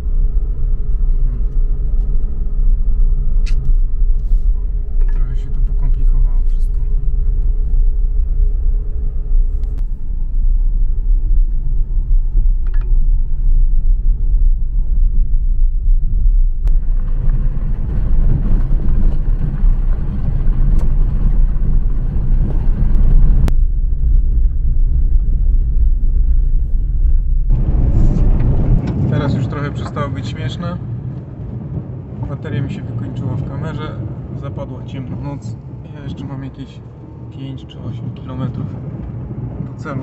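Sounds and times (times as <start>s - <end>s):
car engine and tyres rumbling: 0.0s - 40.0s
harsh rushing noise: 0.0s - 40.0s.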